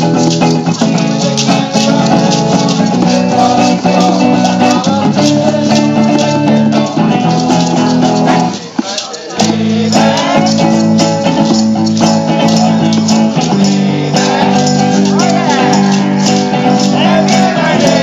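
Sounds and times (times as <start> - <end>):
live band playing pop song: 0.0 - 8.8, 9.4 - 18.0
rattling shakers: 0.0 - 18.0
strummed guitars: 0.0 - 18.0
voices singing along: 0.0 - 18.0.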